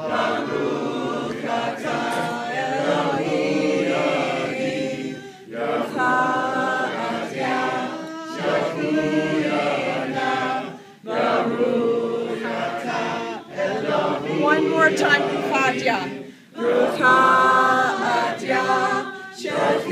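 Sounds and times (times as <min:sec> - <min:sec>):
group chanting in unison: 0:00.0 - 0:19.9.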